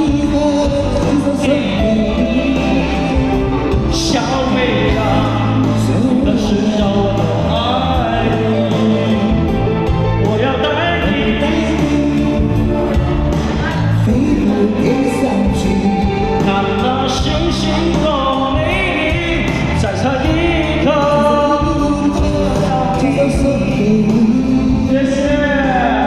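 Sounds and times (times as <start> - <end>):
pop song with singing: 0.0 - 26.0.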